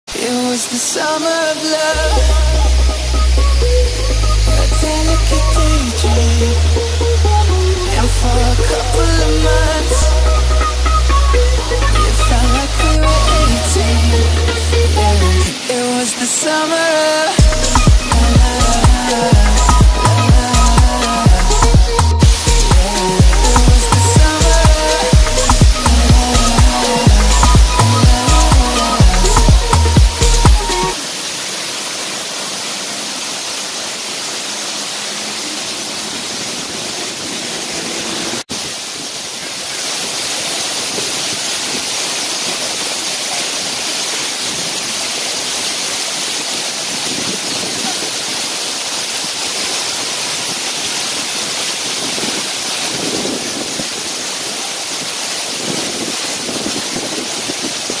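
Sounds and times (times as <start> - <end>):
waterfall rushing: 0.1 - 58.0.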